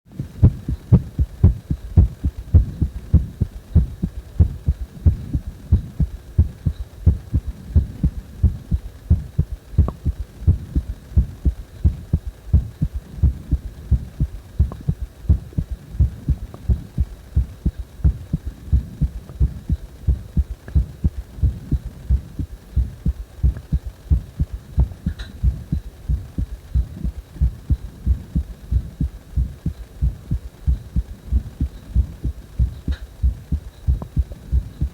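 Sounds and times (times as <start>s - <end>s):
heartbeat thumps: 0.2s - 34.9s.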